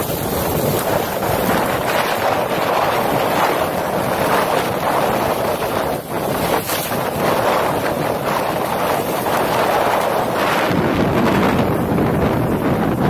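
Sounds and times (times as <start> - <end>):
storm wind buffeting microphone: 0.0 - 13.0
waves breaking on rocks: 0.0 - 13.0.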